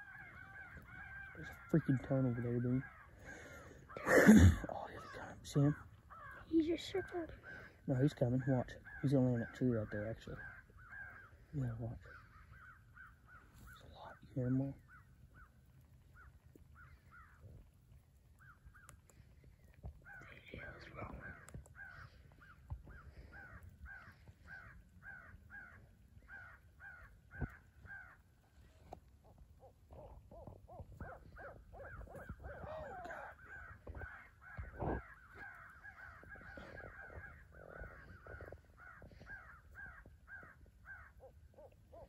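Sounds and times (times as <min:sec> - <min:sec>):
crows cawing: 0:00.0 - 0:42.0.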